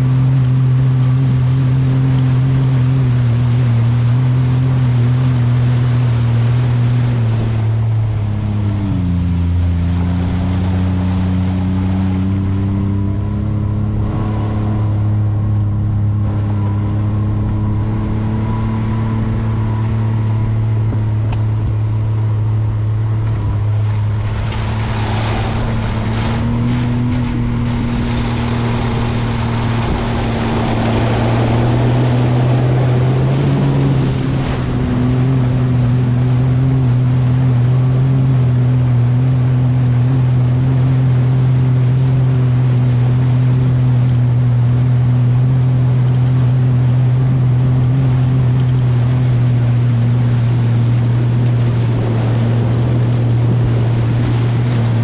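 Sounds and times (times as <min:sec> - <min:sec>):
vehicle engine running: 0:00.0 - 0:55.0
water rushing and splashing: 0:00.0 - 0:55.0.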